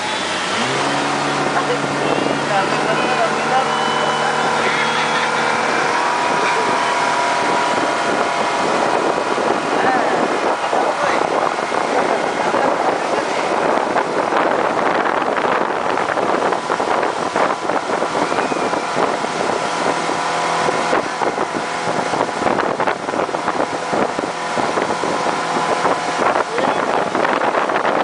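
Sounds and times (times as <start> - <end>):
motorboat engine running: 0.0 - 28.0
rushing wake and spray: 0.0 - 28.0
wind buffeting microphone: 0.0 - 28.0.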